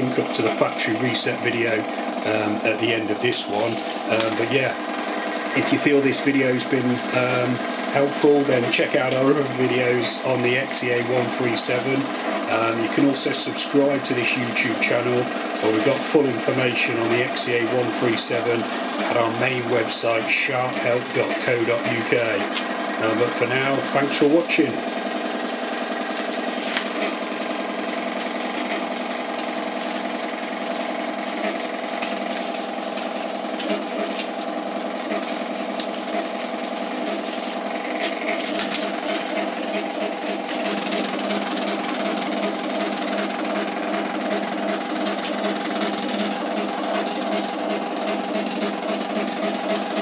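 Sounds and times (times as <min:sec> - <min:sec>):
receipt printer whining: 0:00.0 - 0:50.0.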